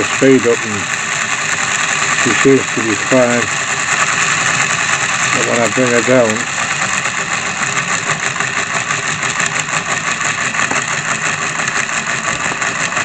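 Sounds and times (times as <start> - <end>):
model locomotive motor whirring: 0.0 - 13.0.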